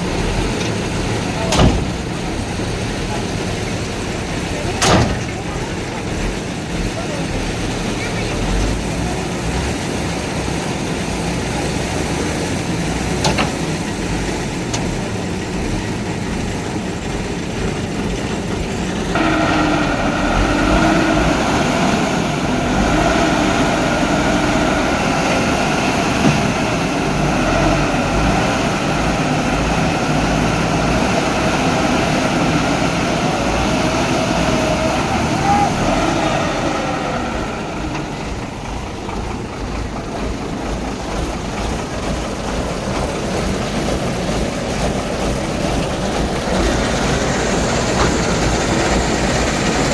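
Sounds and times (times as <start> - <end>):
heavy vehicle engine running: 0.0 - 49.9.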